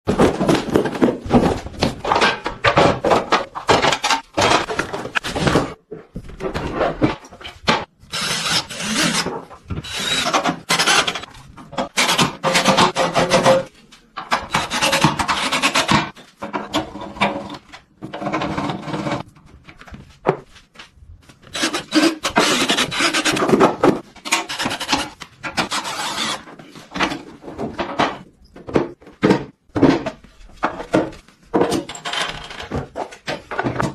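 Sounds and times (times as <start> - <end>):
knocks of metal and wood: 0.1 - 7.9, 9.0 - 19.2, 21.6 - 33.9.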